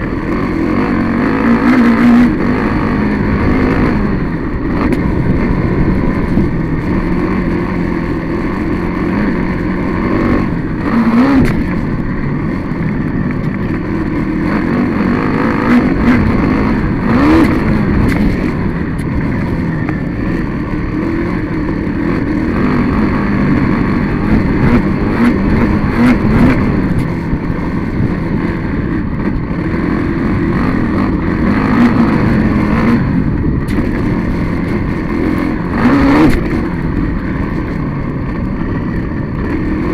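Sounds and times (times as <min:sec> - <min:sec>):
racing engine revving: 0:00.0 - 0:39.9.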